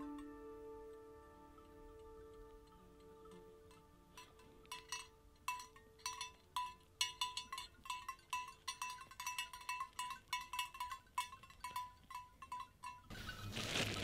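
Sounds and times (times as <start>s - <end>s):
sheep bells clanking: 1.6s - 13.7s.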